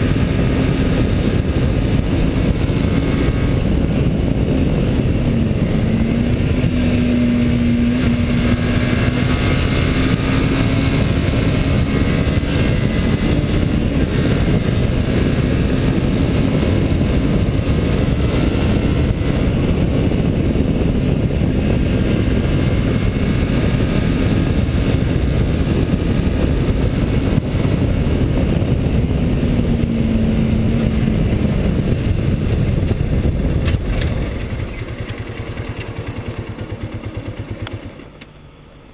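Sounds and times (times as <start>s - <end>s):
wind rush: 0.0s - 37.6s
motorcycle engine cruising: 0.0s - 38.9s.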